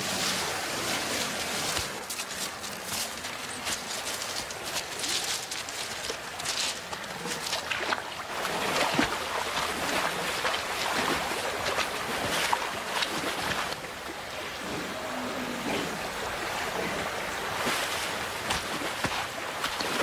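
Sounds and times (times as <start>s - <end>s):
bison wading splashes: 0.0s - 20.0s
river water over stones: 0.0s - 20.0s.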